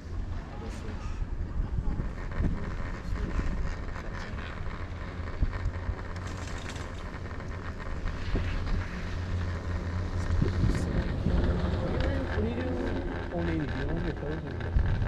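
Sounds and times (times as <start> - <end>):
constant low rumble: 0.0 - 15.0
wind buffeting microphone: 0.0 - 15.0.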